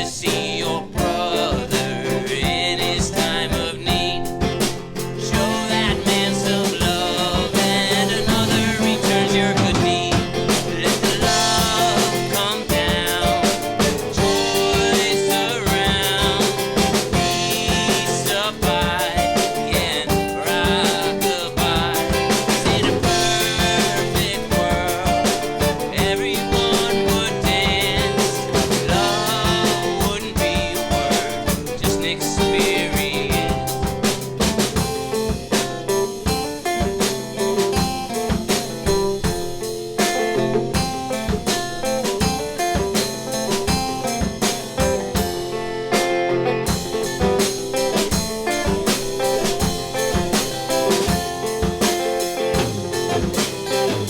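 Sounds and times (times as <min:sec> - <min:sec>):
song with drums guitar and singing: 0:00.0 - 0:54.0.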